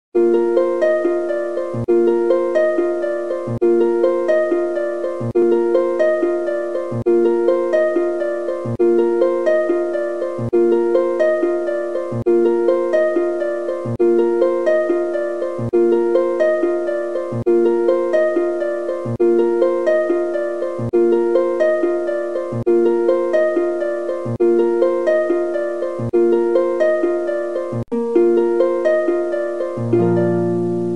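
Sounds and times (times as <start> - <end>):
harp-like plucked string music: 0.2 - 30.9.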